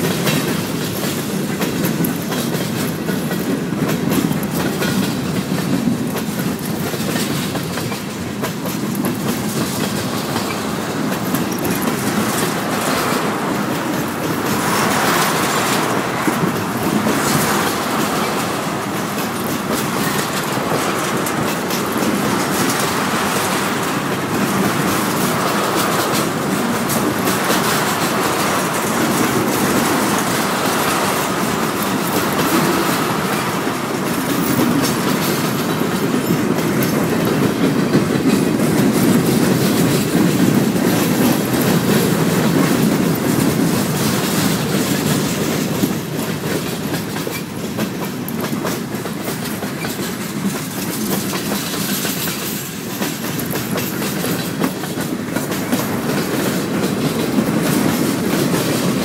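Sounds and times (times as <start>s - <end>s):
clicking over rail joints: 0.0s - 59.0s
train wheels rumbling on rail: 0.0s - 59.0s.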